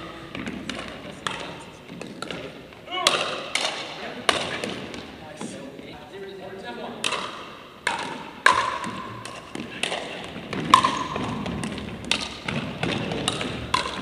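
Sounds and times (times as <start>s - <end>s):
paddles striking pickleball: 0.2s - 5.1s, 7.0s - 14.0s.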